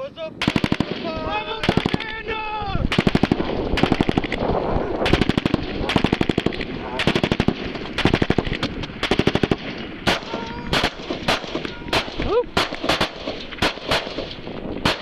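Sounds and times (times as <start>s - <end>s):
rifle shots: 0.4s - 2.1s, 2.9s - 15.0s.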